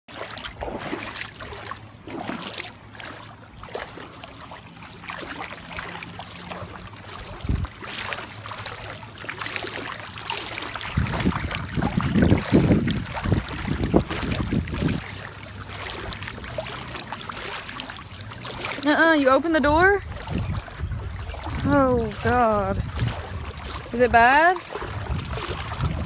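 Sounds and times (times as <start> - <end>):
floodwater splashing around car: 0.1 - 26.0.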